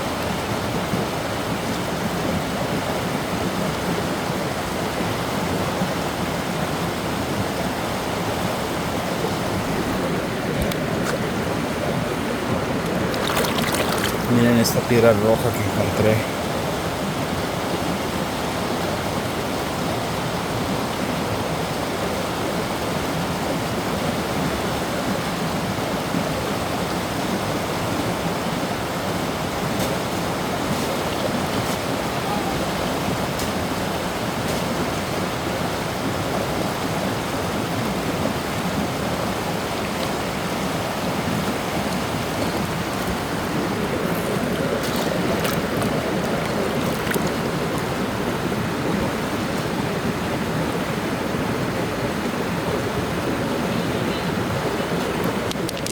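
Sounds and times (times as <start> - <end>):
creek rushing over rocks: 0.0 - 55.9.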